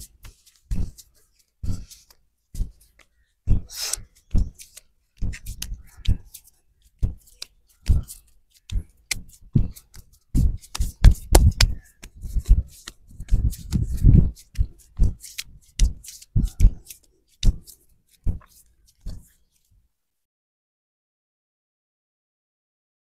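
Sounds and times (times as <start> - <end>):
hands slapping and rubbing skin: 0.0 - 19.7.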